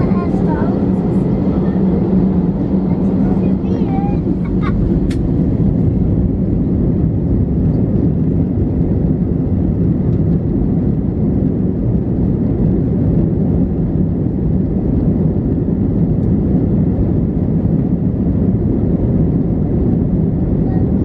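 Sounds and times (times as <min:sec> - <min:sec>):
aircraft engines rumbling while taxiing: 0:00.0 - 0:21.0.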